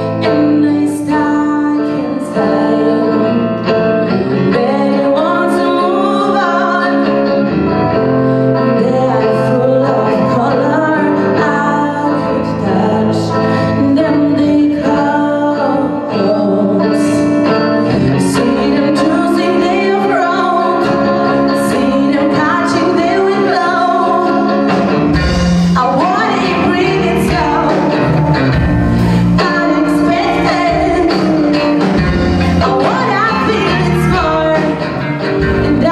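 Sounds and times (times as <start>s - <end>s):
electric guitars: 0.0s - 35.9s
woman singing lead vocal: 0.0s - 35.9s.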